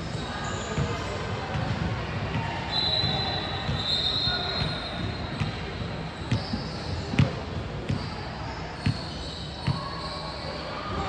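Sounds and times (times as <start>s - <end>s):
shoe squeal on court: 0.0s - 1.3s, 2.6s - 11.0s.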